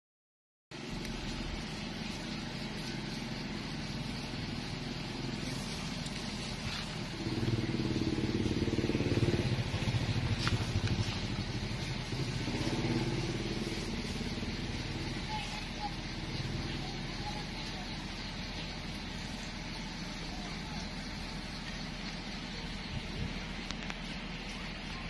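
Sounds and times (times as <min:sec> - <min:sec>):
motor engine running: 0:00.8 - 0:25.0.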